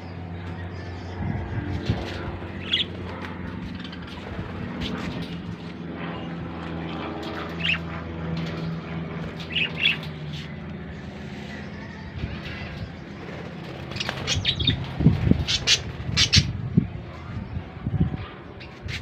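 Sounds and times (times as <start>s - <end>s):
birds chirping and squawking: 0.0s - 19.0s
steady low hum: 0.0s - 19.0s.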